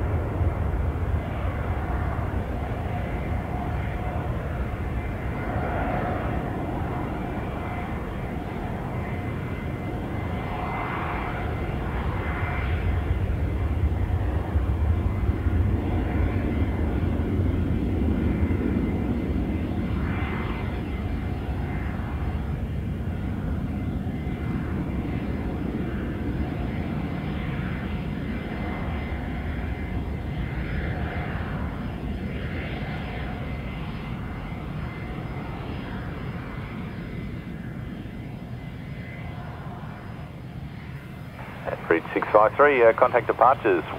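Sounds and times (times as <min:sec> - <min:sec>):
jet aircraft engines rumbling: 0:00.0 - 0:43.9.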